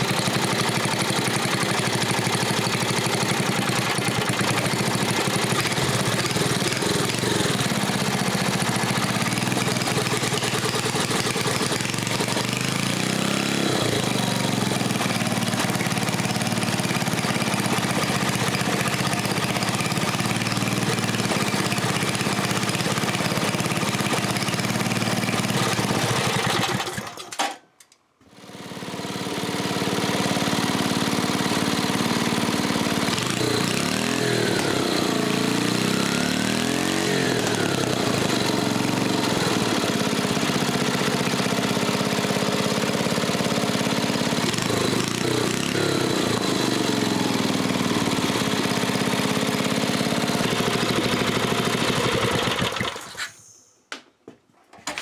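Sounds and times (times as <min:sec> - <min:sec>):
single-cylinder engine running: 0:00.0 - 0:27.6, 0:28.2 - 0:53.4.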